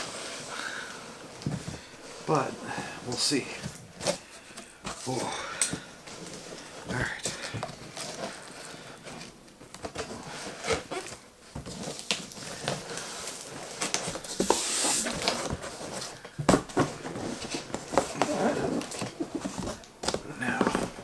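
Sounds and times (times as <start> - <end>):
cardboard packaging rustling: 0.0 - 21.0.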